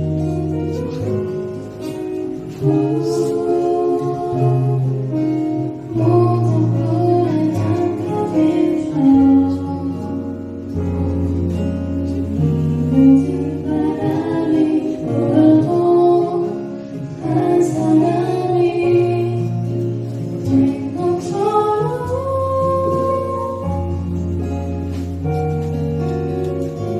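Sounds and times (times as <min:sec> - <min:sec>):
guitar: 0:00.0 - 0:26.9
keyboard: 0:00.0 - 0:26.9
woman singing a ballad: 0:02.0 - 0:11.1, 0:11.7 - 0:24.6.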